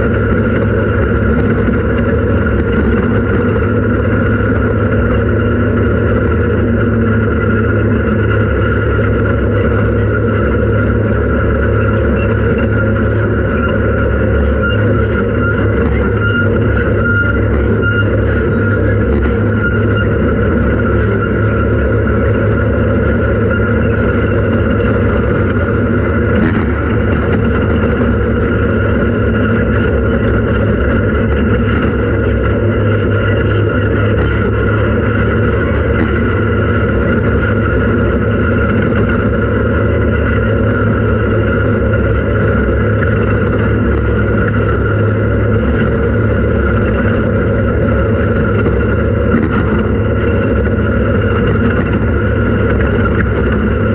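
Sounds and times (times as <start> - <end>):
vehicle engine running steadily: 0.0 - 53.9.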